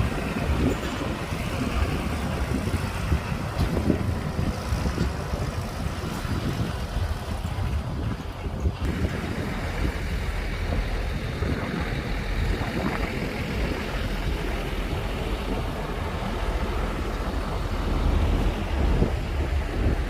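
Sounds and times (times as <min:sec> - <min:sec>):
bulldozer diesel engine rumbling: 0:00.0 - 0:20.0.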